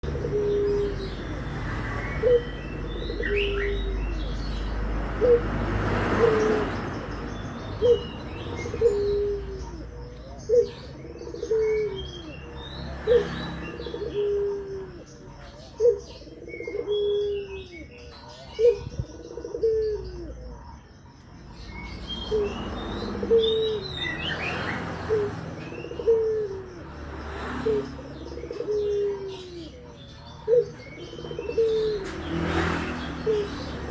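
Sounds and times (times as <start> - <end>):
dove cooing: 0.0 - 33.9
small birds chirping: 0.0 - 33.9.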